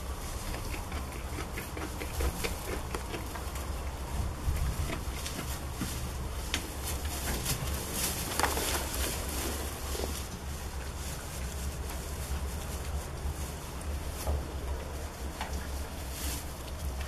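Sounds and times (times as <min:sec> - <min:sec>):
straw rustling: 0:00.0 - 0:17.0.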